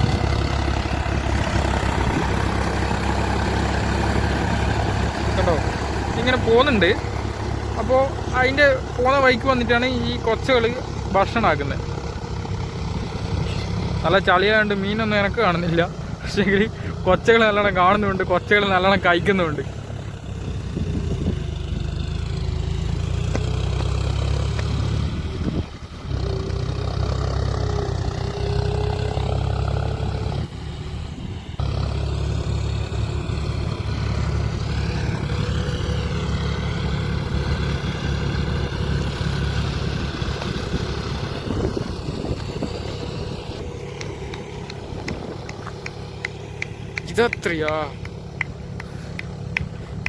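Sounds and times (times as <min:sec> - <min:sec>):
engine rumbling steadily: 0:00.0 - 0:50.0.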